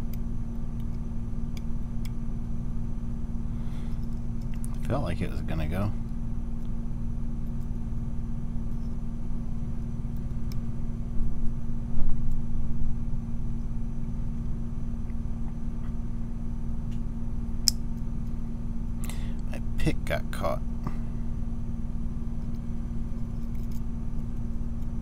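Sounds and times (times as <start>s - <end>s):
low hum with held tone: 0.0s - 25.0s.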